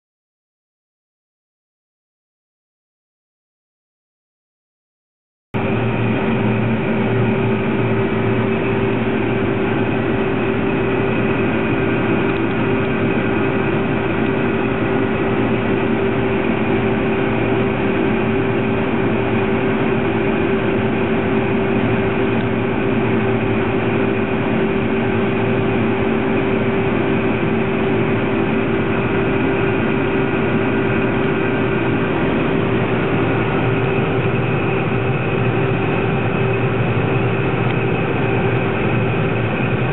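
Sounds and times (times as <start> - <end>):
combine harvester droning: 5.6 - 39.9.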